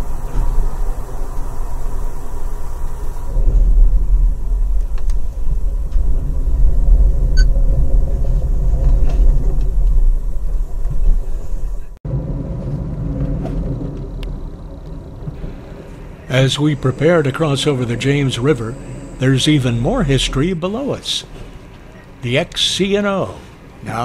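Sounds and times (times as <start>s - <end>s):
train car rumbling on rails: 0.0s - 24.0s.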